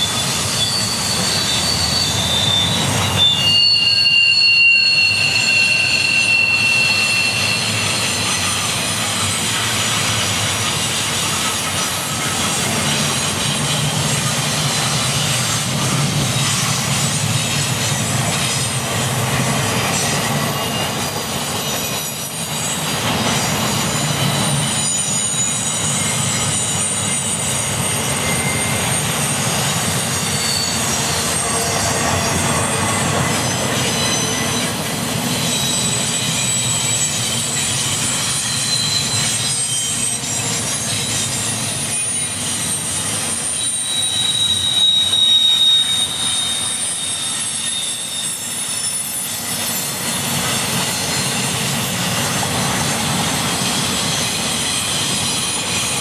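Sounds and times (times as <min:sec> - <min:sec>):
high-pitched wheel squeal: 0:00.0 - 0:56.0
steel wheels rumbling on rail: 0:00.0 - 0:56.0.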